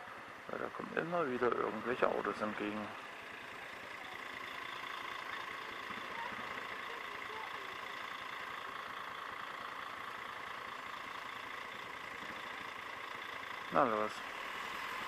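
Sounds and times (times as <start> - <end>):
engines idling in traffic: 0.0 - 15.0.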